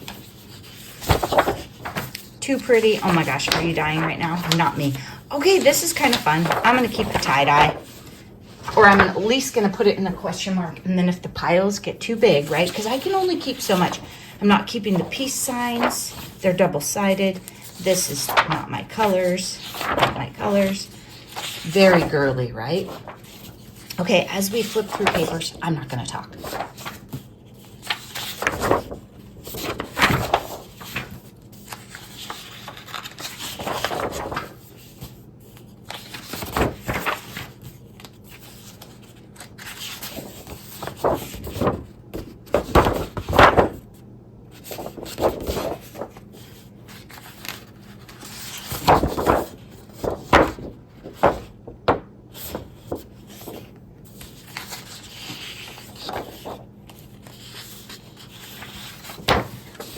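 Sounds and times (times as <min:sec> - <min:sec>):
paper rustling and flapping: 0:00.0 - 0:59.9.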